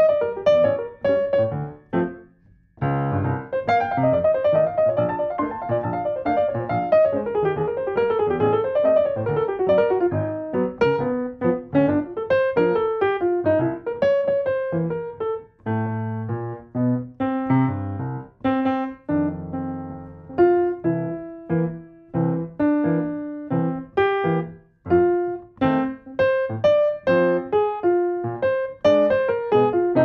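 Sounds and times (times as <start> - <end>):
solo grand piano: 0.0 - 30.0.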